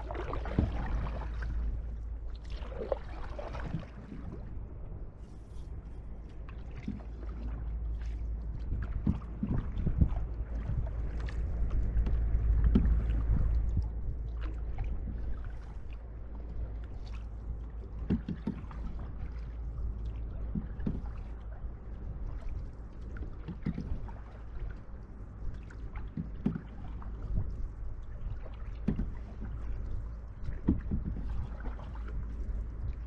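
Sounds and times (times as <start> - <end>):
paddle strokes splashing: 0.0 - 4.5, 5.2 - 33.0
steady low rumble: 0.0 - 33.0.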